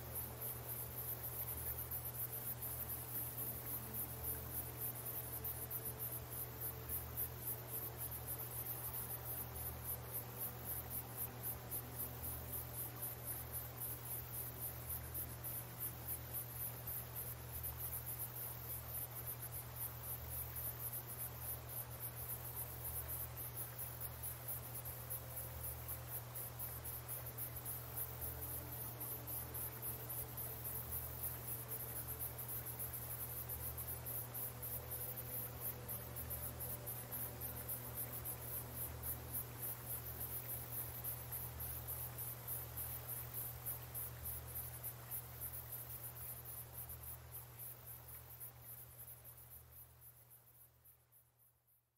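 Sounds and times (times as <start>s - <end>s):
constant low hum: 0.0s - 51.4s
insects chirping: 0.0s - 51.9s.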